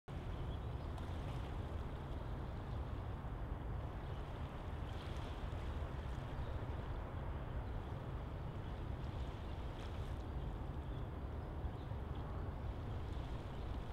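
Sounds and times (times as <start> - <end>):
low outdoor rumble: 0.1 - 13.9.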